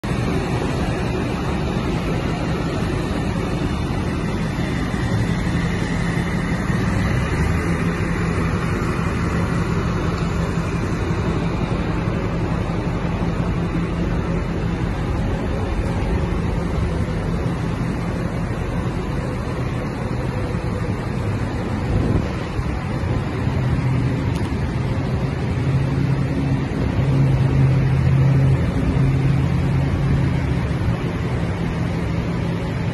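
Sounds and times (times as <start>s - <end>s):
pickup truck idling: 0.0s - 32.9s.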